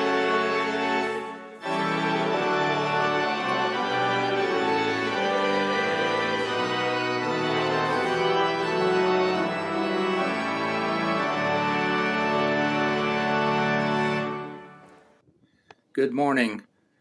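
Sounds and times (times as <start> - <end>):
organ chords: 0.0 - 15.2.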